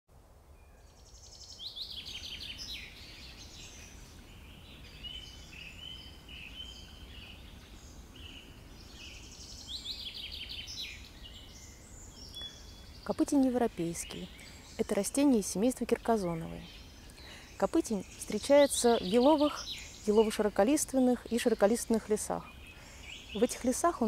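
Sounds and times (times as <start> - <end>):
songbird descending song: 0.6 - 24.0.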